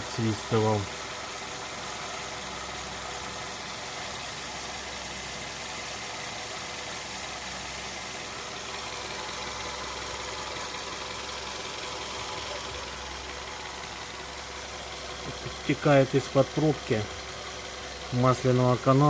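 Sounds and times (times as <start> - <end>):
car engine idling: 0.0 - 19.0
drive belt running over pulleys: 0.0 - 19.0.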